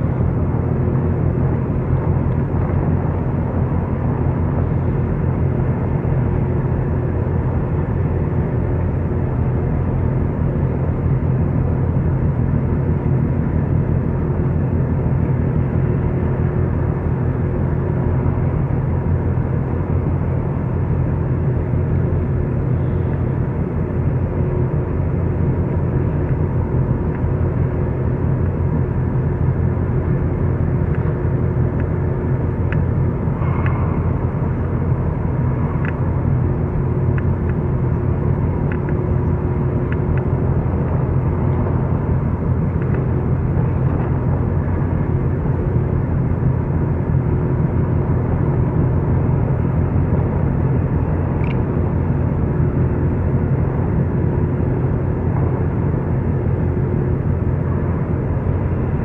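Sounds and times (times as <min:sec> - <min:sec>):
faint steady hum: 0:00.0 - 0:59.0
low ship engine rumble: 0:00.0 - 0:59.0.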